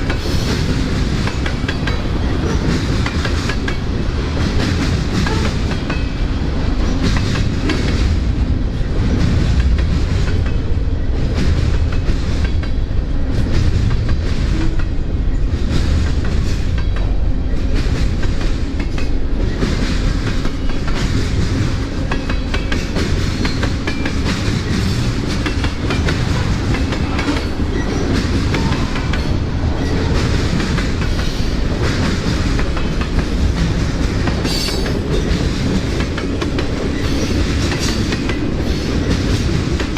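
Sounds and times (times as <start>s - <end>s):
train wheels rumbling on rails: 0.0s - 39.9s
wheels clicking over rail joints: 0.0s - 39.9s.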